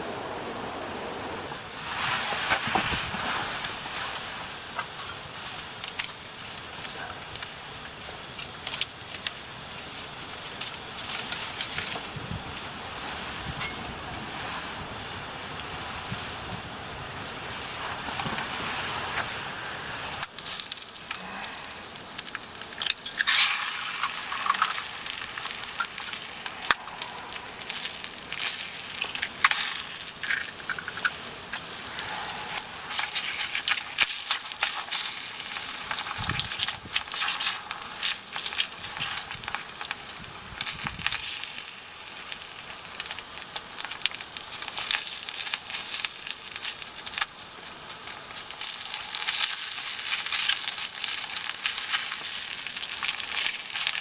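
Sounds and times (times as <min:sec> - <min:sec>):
food sizzling with pops and crackles: 0:00.0 - 0:54.0.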